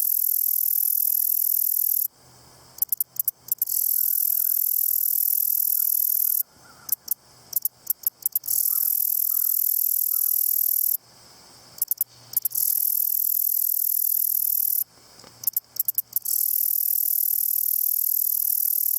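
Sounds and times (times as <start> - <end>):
grasshopper stridulating buzz: 0.0 - 2.1, 2.7 - 18.9.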